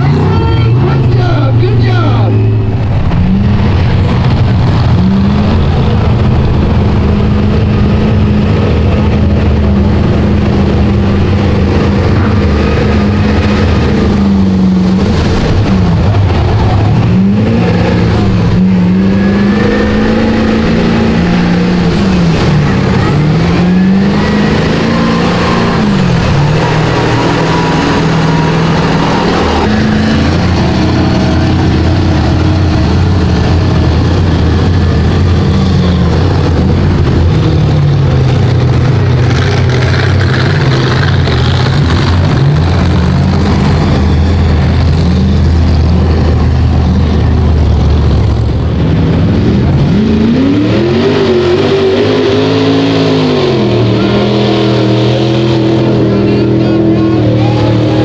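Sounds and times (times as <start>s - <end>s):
tires churning mud and water: 0.0s - 58.0s
truck engine revving: 0.0s - 58.0s.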